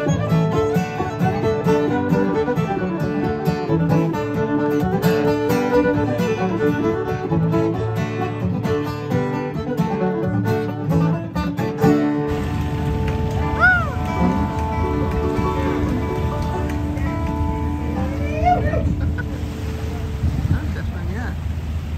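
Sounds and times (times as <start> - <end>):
banjo picking: 0.0 - 20.8
fiddle melody: 0.0 - 21.2
strummed acoustic guitar: 0.0 - 21.3.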